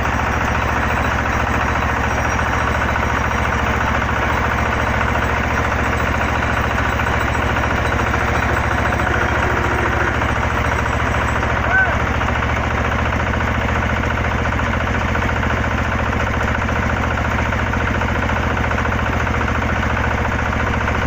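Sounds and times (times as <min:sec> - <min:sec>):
drilling rig engine running: 0:00.0 - 0:21.0.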